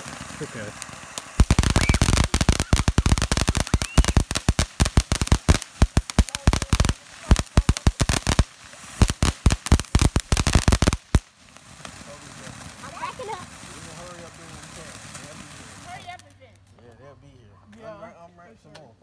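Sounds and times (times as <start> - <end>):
firework crackling pops: 0.0 - 16.8.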